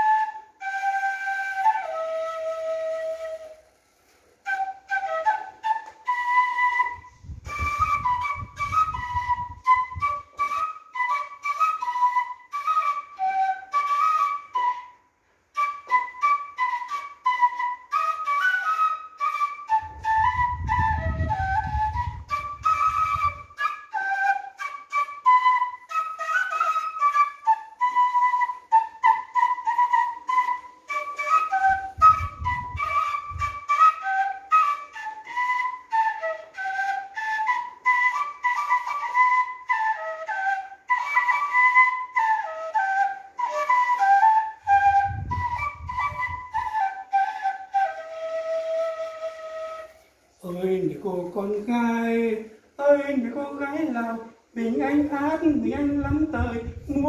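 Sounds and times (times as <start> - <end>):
bamboo flute folk melody: 0.0 - 57.0.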